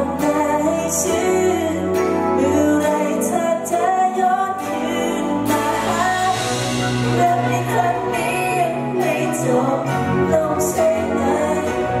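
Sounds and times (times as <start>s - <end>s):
live band playing pop music: 0.0s - 12.0s.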